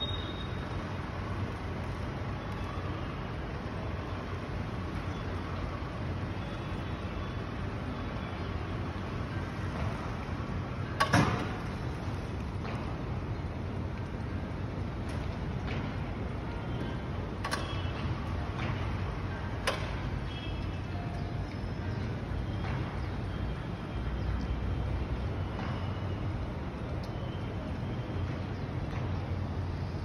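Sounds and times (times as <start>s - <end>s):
city background rumble: 0.0s - 30.0s.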